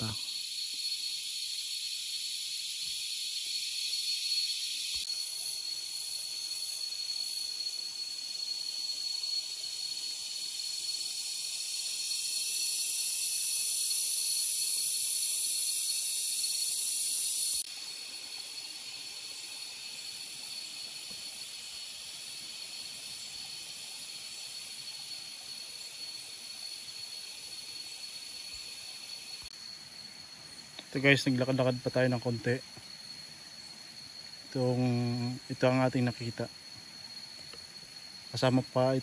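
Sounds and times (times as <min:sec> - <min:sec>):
forest insects shrilling: 0:00.0 - 0:39.0.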